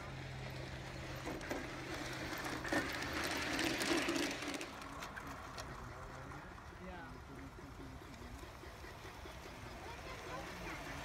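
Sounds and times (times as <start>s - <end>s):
model train wheels clicking: 0.0s - 11.0s.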